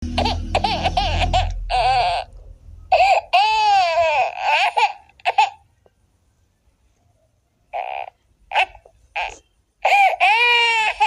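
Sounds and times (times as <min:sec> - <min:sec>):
baby crying: 0:00.0 - 0:05.6, 0:07.7 - 0:11.0.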